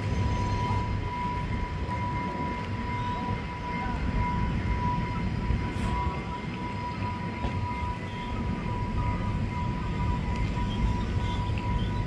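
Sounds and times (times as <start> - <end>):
steady high-pitched tone: 0.0 - 12.0
train wheels clattering on rails: 0.0 - 12.0.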